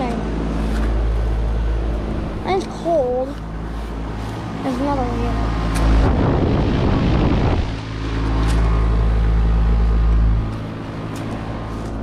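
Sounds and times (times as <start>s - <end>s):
air conditioning unit humming: 0.0s - 12.0s
heavy low rumble: 0.0s - 12.0s.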